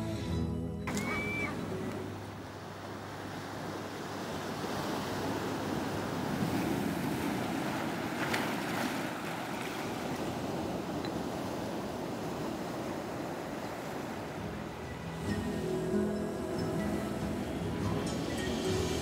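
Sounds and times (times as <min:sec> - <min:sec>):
ocean surf breaking on rocks: 0:00.9 - 0:19.0.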